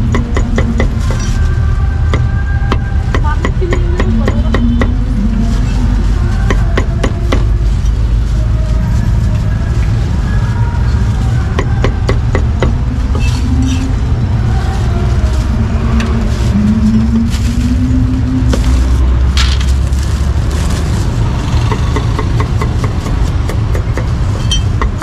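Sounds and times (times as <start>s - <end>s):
low rumble of street traffic: 0.0s - 25.0s.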